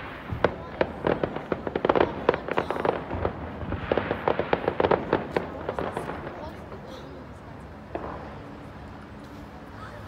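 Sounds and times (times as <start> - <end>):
fireworks bangs and crackling: 0.0 - 9.2.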